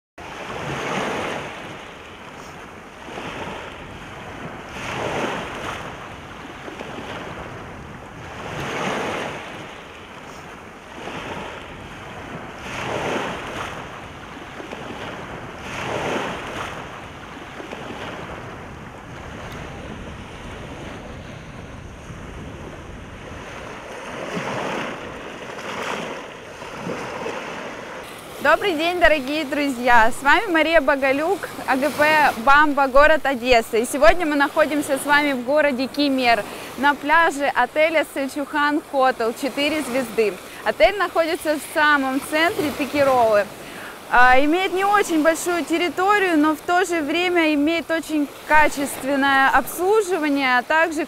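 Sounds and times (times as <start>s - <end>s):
waves washing on pebble shore: 0.2s - 51.0s.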